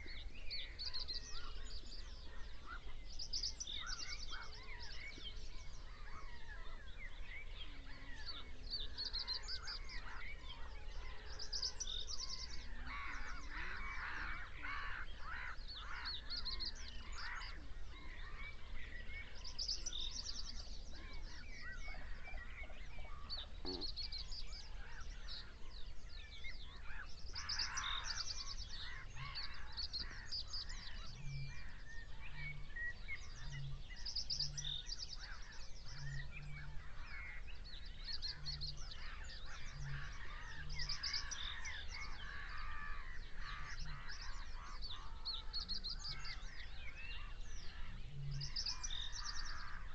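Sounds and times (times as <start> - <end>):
birds calling and singing: 0.0 - 49.9.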